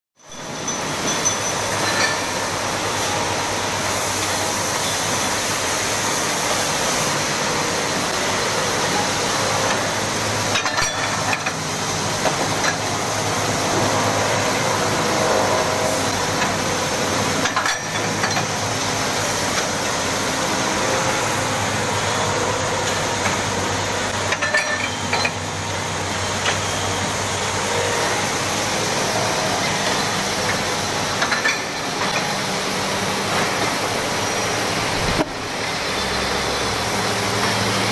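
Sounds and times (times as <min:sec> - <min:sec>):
grinding machine humming: 0:00.3 - 0:37.9.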